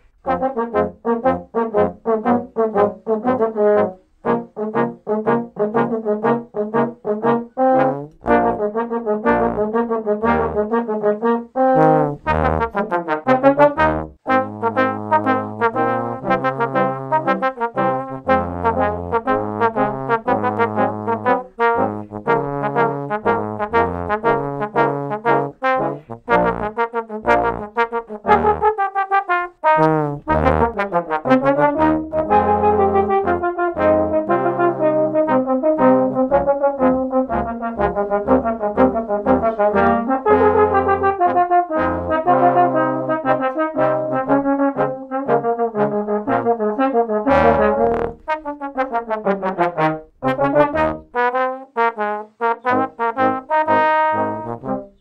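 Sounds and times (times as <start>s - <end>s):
trombone quartet playing: 0.2s - 55.0s.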